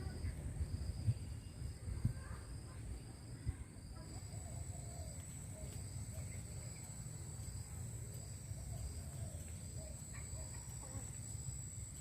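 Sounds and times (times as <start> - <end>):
insect high-pitched whine: 0.0 - 12.0
pulsing insect call: 0.0 - 12.0.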